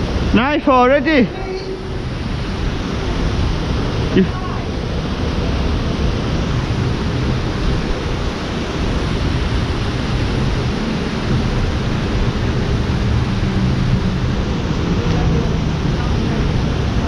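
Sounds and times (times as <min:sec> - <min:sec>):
low rumble: 0:00.0 - 0:17.0
water rushing through lock gates: 0:00.0 - 0:17.0.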